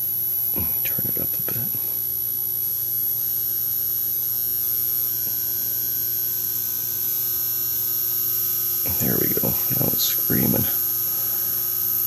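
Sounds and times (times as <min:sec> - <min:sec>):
high-pitched whine of vibrating rods: 0:00.0 - 0:12.0
low electrical hum: 0:00.0 - 0:12.0.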